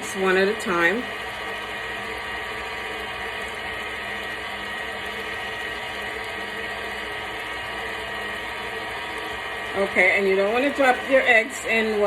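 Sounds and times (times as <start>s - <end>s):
electric mixer motor whine: 0.0s - 12.0s.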